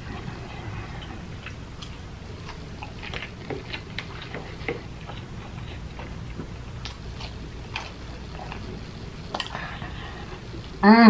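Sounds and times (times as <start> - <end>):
chewing soft food: 0.0 - 10.8.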